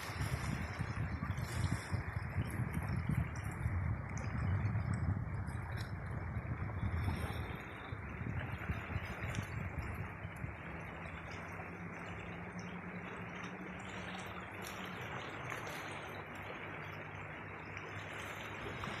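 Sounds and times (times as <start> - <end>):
sea water washing on shore: 0.0 - 19.0.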